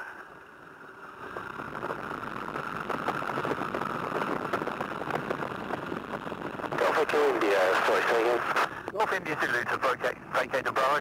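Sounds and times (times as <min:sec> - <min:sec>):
biplane engine running: 0:00.0 - 0:11.0.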